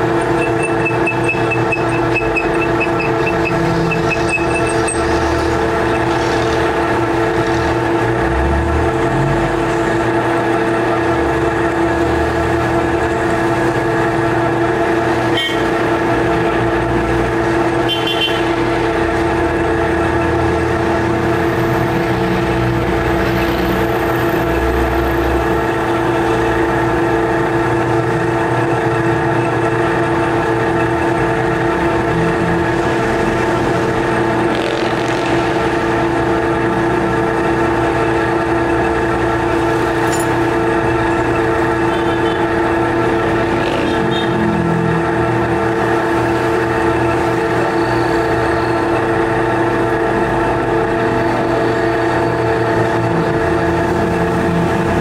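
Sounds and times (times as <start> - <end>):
metal lathe humming and whining: 0.0 - 55.0.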